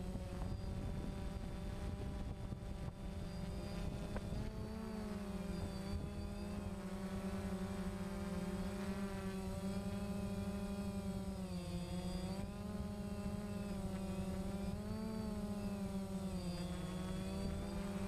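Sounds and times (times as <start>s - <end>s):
drone propellers droning: 0.0s - 18.0s.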